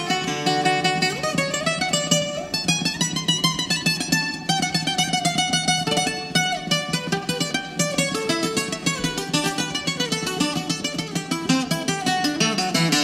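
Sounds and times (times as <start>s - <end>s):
bouzouki instrumental music: 0.0s - 13.0s.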